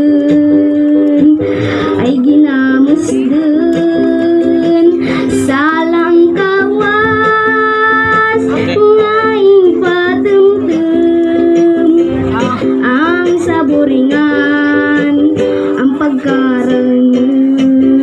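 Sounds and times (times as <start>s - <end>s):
boy singing into microphone: 0.0s - 18.0s
ukulele strumming: 0.0s - 18.0s.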